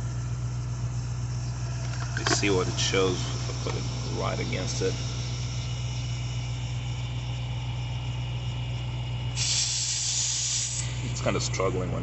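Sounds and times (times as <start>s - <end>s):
tire inflator compressor humming: 0.0s - 12.0s
air hissing: 1.4s - 11.9s.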